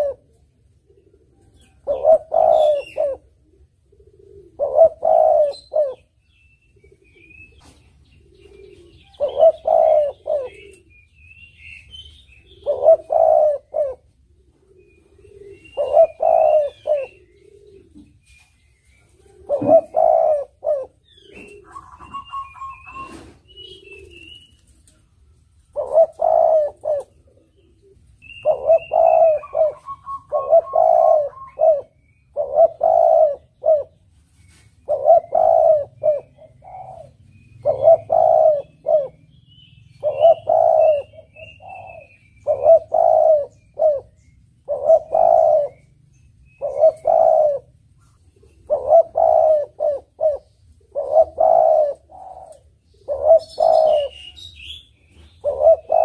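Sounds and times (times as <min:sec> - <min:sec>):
small birds chirping: 0:00.0 - 0:03.3, 0:04.0 - 0:56.0
dove cooing: 0:00.0 - 0:56.0.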